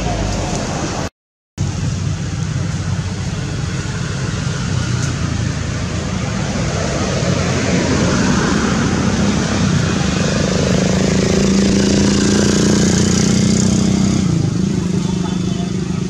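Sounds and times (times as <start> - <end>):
rushing noise: 0.0 - 15.2.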